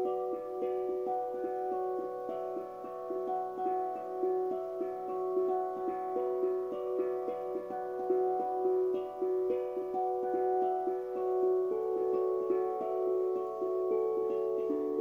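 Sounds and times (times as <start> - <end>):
steel tongue drum notes: 0.0 - 15.0.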